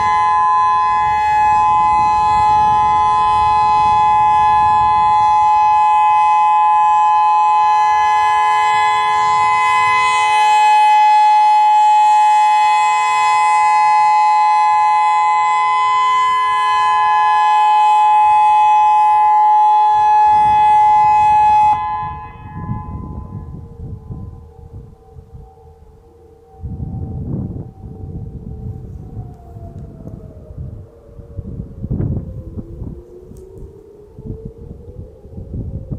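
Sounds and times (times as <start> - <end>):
siren echo: 0.0 - 35.9
two-note warning siren: 0.0 - 35.9.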